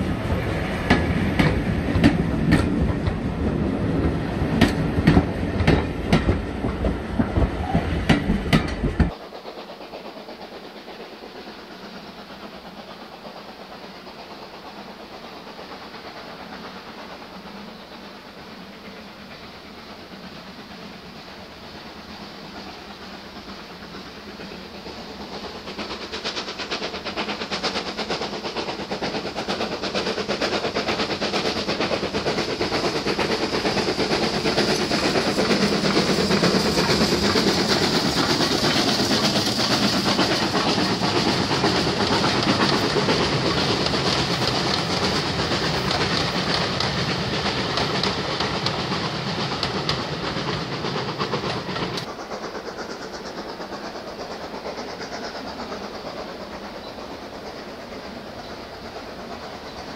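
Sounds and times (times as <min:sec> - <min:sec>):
steam locomotive passing: 0:00.0 - 0:59.9
train wheels clattering over rail joints: 0:00.1 - 0:59.9.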